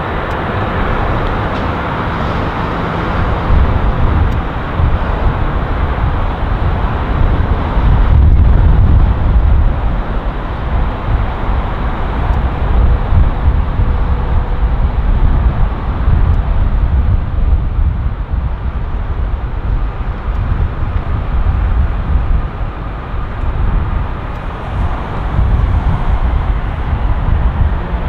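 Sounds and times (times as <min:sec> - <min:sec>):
jet engine rumble: 0:00.0 - 0:28.0.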